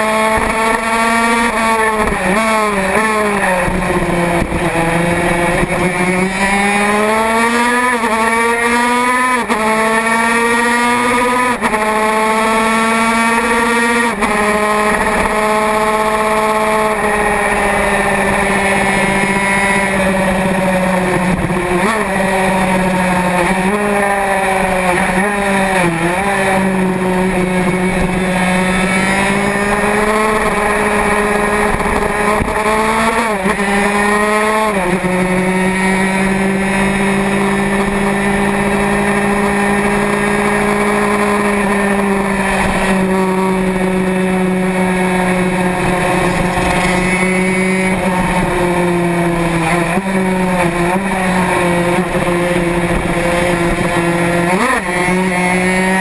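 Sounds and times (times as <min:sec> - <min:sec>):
racing motorcycle engine high revs: 0:00.0 - 0:56.0.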